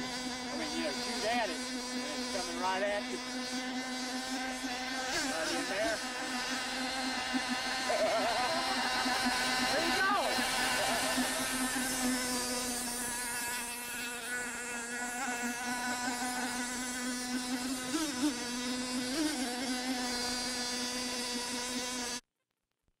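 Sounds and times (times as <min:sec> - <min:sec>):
high-pitched model boat motor buzz: 0:00.0 - 0:22.3.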